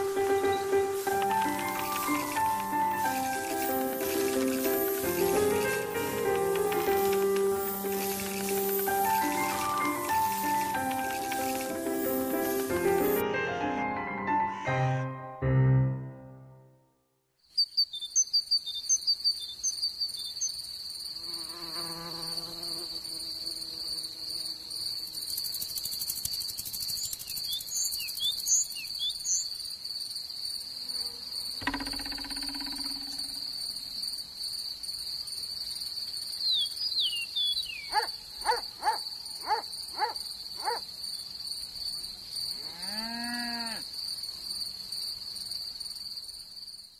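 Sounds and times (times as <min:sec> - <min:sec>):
cricket trilling: 0:00.0 - 0:13.2, 0:17.6 - 0:46.9.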